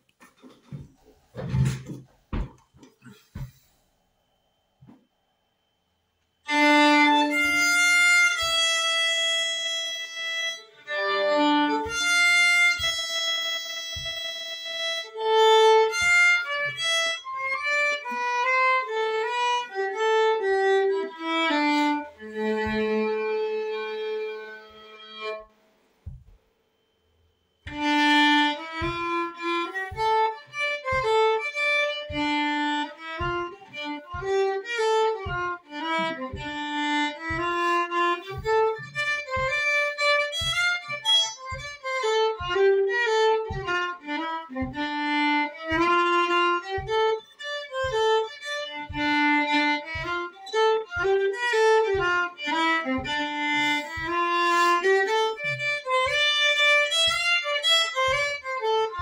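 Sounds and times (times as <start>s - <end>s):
solo violin melody: 6.4s - 26.3s, 27.6s - 59.0s.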